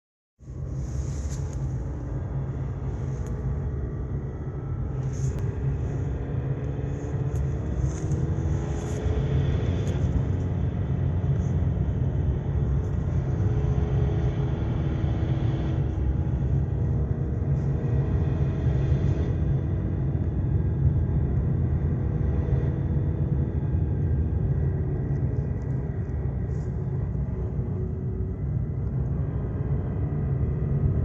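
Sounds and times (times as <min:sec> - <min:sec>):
car engine running: 0:00.4 - 0:31.0.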